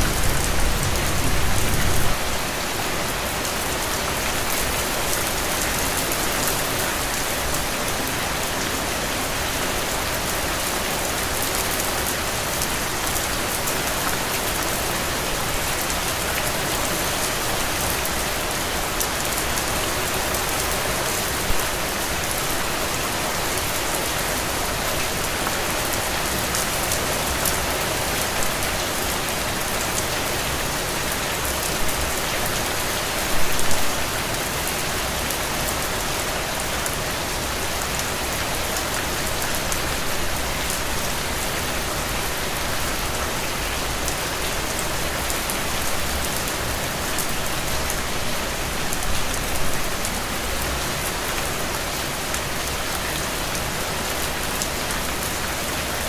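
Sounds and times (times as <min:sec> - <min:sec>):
heavy rain on soil and puddles: 0:00.0 - 0:56.0.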